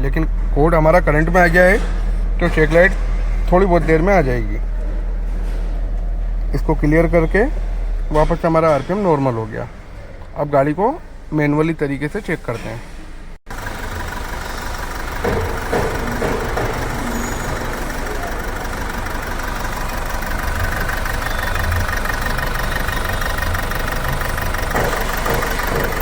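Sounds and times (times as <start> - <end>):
diesel engine idling with knock: 0.0 - 11.4, 12.0 - 26.0.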